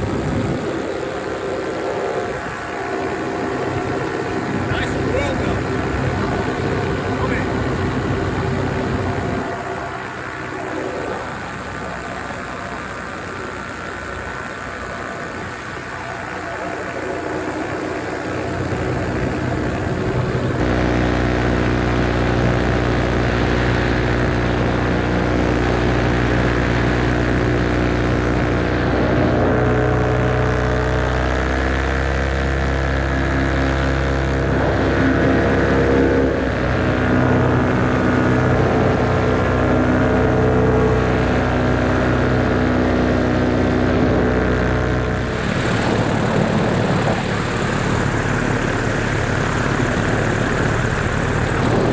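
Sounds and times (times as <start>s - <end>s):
paramotor engine and propeller: 0.0s - 51.9s.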